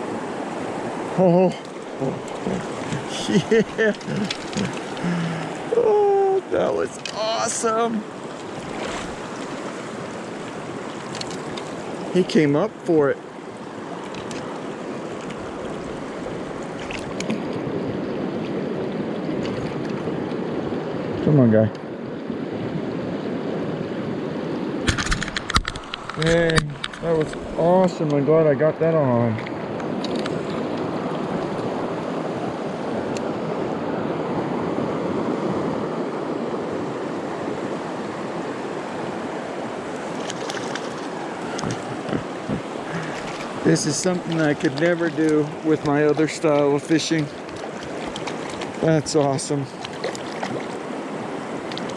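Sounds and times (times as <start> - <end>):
river rushing water: 0.0 - 21.2, 29.5 - 51.9.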